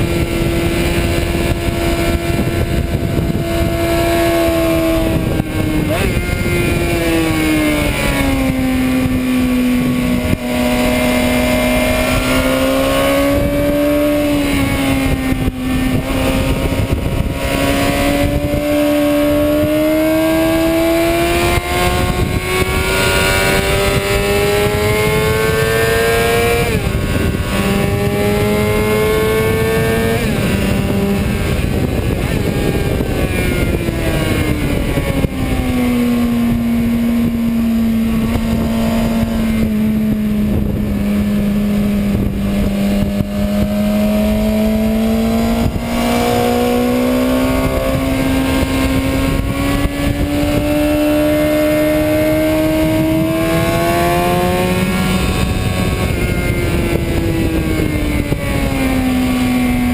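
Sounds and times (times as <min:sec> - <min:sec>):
motorcycle engine running hard: 0:00.0 - 0:59.9
wind rushing over microphone: 0:00.0 - 0:59.9.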